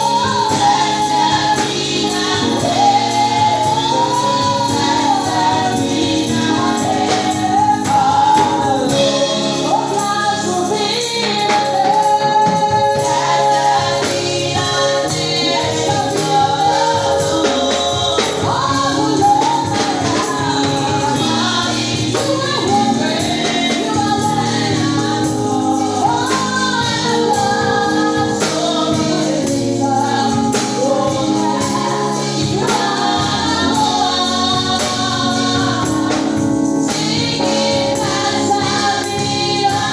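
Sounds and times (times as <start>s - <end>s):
congregation and choir singing: 0.0s - 39.9s
instrumental accompaniment: 0.0s - 39.9s
tambourine: 0.0s - 39.9s.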